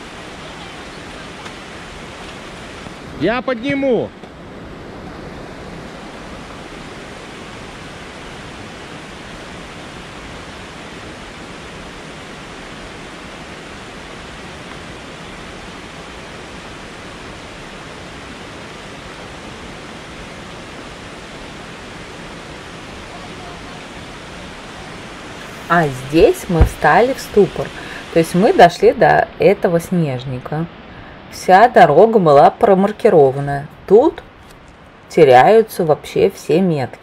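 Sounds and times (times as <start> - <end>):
mountain river rushing: 0.0 - 37.0.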